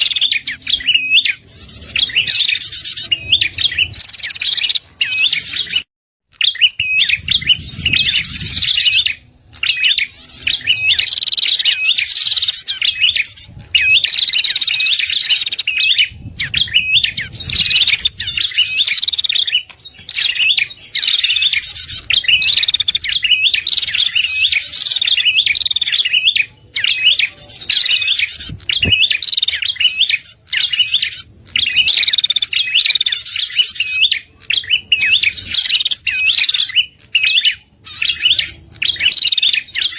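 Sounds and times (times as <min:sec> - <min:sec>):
bird chirping phrases: 0:00.0 - 0:39.9.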